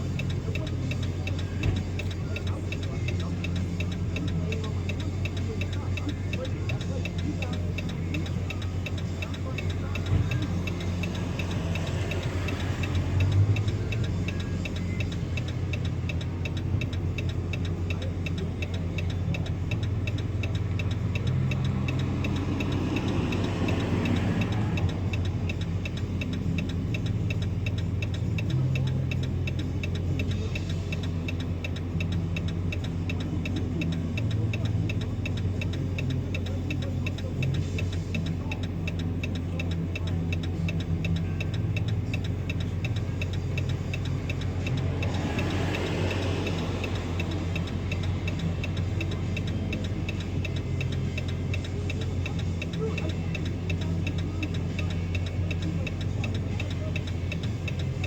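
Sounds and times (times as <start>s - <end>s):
car engine idling: 0.0s - 58.0s
indicator flasher ticking: 0.0s - 58.0s.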